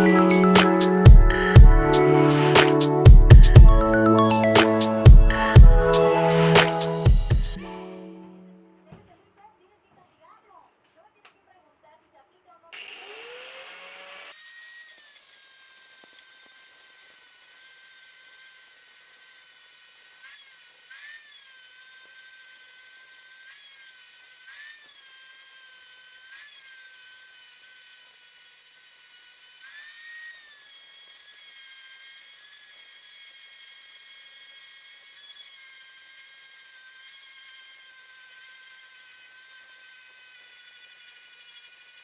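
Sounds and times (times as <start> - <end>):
power tool high-pitched whine: 0.0 - 8.1, 12.8 - 42.0.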